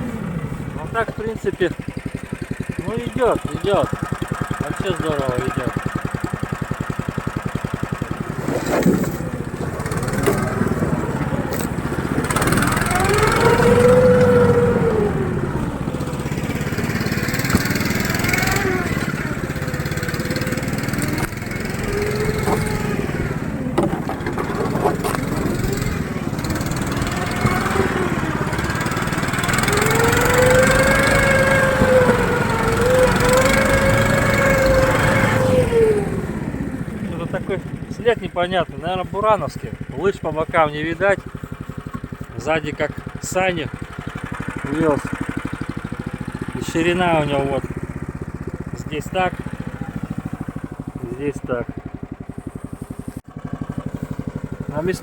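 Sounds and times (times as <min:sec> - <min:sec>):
snow towing engine revving: 0:00.0 - 0:55.0.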